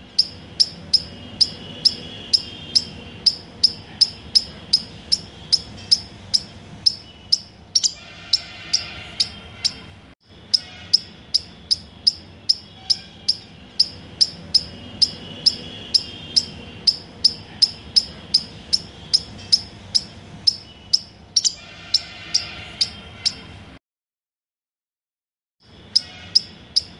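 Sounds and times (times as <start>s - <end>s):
faint birdsong: 0.0s - 23.8s, 25.6s - 26.9s.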